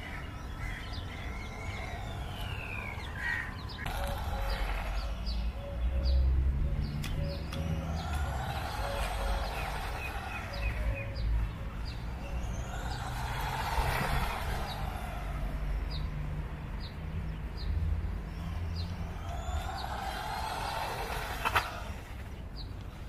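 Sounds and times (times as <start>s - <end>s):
birds chirping: 0.0s - 23.0s
vehicle running: 1.8s - 22.8s.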